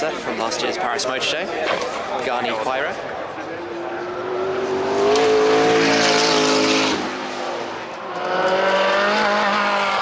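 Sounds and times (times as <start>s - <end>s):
car engines revving: 1.8s - 10.0s.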